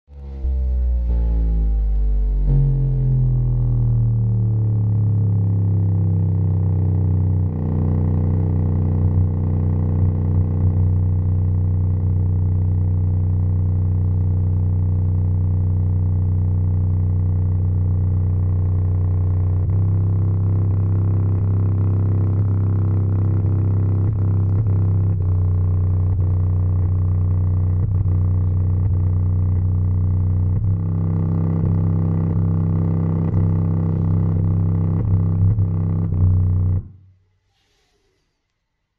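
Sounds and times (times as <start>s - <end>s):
loud low bass tone: 0.1s - 37.1s.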